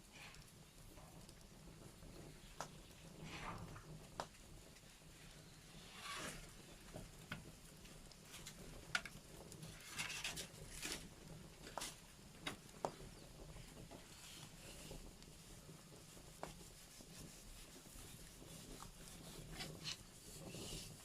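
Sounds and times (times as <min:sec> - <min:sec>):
fire hissing: 0:00.0 - 0:21.0
wood fire crackling: 0:00.0 - 0:21.0.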